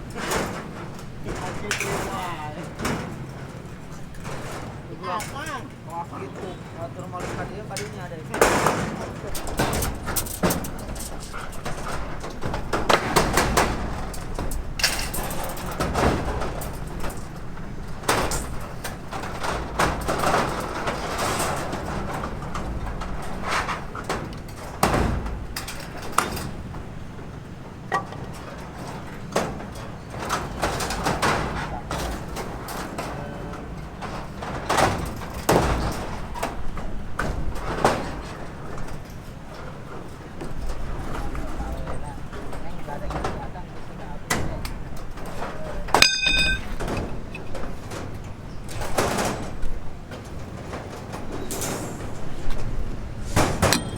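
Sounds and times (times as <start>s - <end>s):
knocks and clatter: 0.0s - 41.2s, 45.0s - 53.9s.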